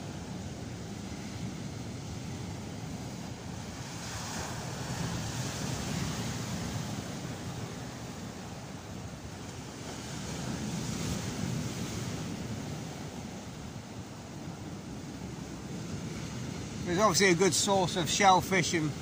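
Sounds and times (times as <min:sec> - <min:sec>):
surf washing up a beach: 0:00.0 - 0:19.0.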